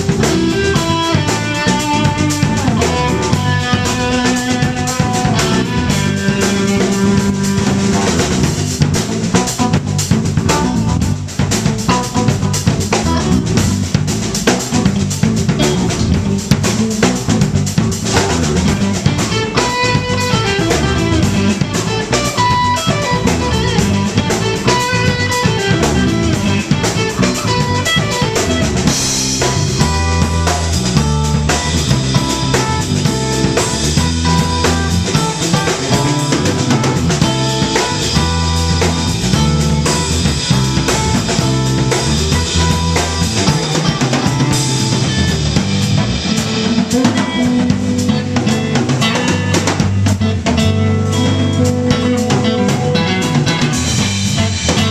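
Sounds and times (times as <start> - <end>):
drum kit with cymbals: 0.0 - 54.9
electric bass line: 0.0 - 54.9
electric guitar lines: 0.0 - 54.9.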